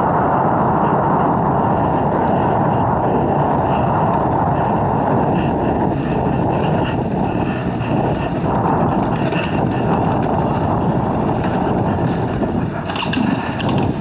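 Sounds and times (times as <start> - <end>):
dirt bike engine running: 0.0 - 14.0
wind on microphone: 0.0 - 14.0.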